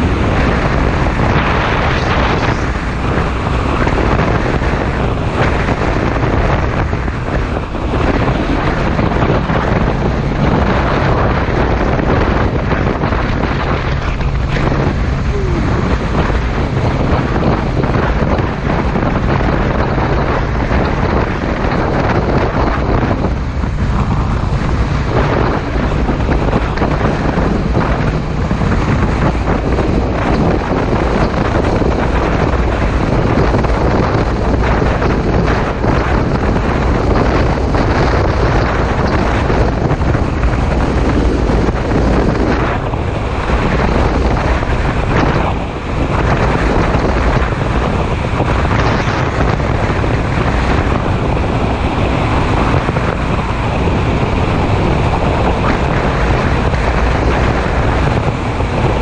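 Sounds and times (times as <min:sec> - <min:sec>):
motorcycle engine drone: 0:00.0 - 0:59.0
wind rushing over microphone: 0:00.0 - 0:59.0.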